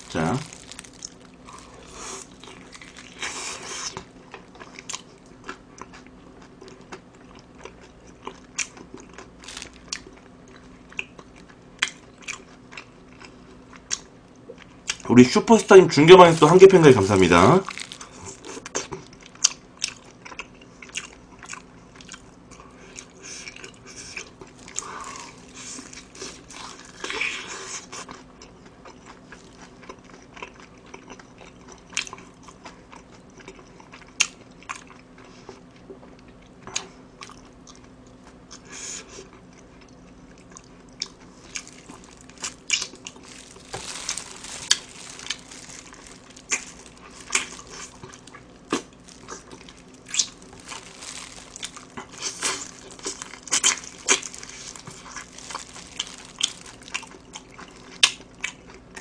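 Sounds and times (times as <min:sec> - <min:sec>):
crunching fried chicken: 0:00.0 - 0:59.0
chewing: 0:00.4 - 0:15.1, 0:17.7 - 0:59.0.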